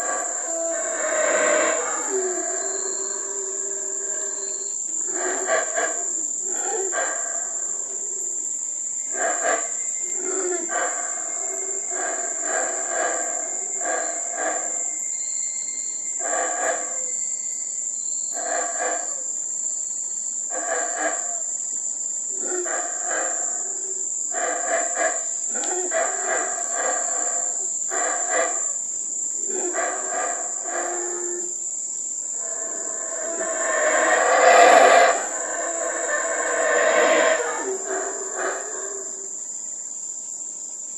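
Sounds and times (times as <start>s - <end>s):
howler monkeys calling: 0.0s - 19.5s, 20.4s - 40.0s
high-pitched insect drone: 0.0s - 40.9s.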